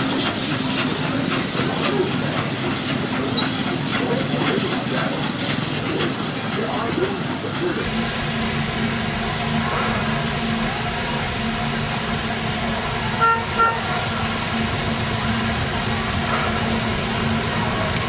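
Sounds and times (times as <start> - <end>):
steady background drone: 0.0 - 18.0.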